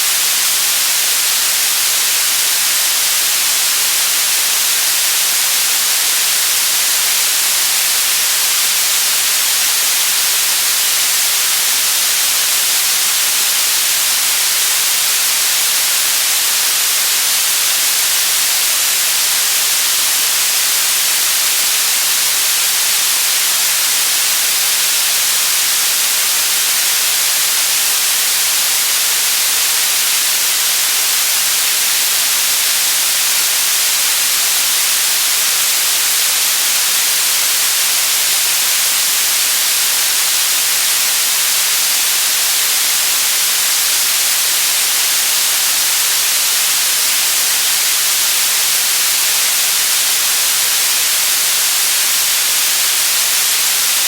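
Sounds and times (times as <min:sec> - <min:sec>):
loud white noise hiss: 0:00.0 - 0:54.0.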